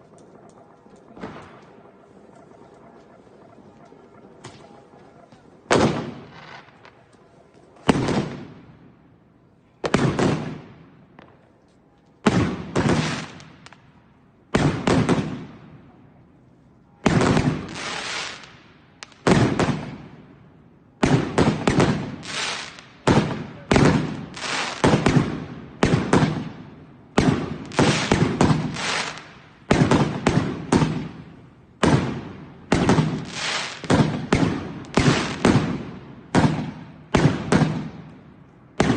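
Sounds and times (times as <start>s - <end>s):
fireworks bangs: 0.0s - 8.9s, 9.8s - 11.5s, 12.2s - 15.8s, 17.0s - 20.3s, 21.0s - 38.9s.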